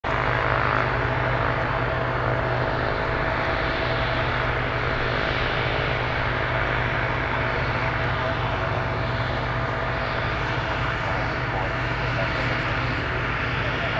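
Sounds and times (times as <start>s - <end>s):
jet engines running: 0.0s - 13.9s.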